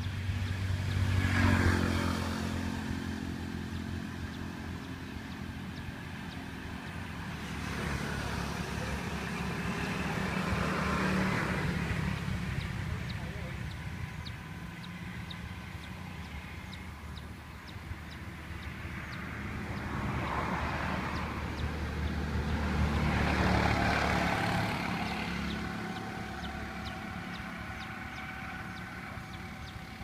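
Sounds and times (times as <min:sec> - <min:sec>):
low motor hum: 0:00.0 - 0:20.3, 0:20.9 - 0:30.0.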